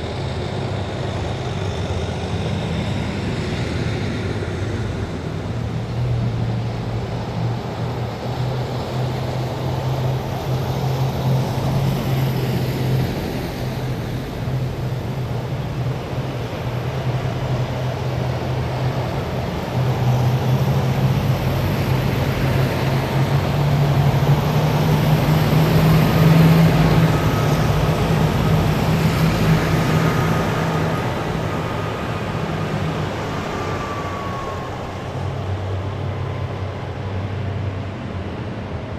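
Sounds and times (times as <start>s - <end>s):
heavy vehicles driving past: 0.0s - 38.9s.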